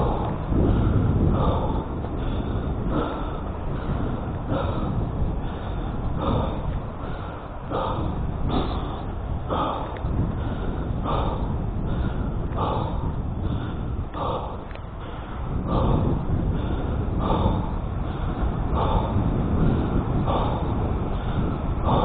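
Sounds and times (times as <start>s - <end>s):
person breathing hard: 0.0s - 22.0s
wind rumble on microphone: 0.0s - 22.0s.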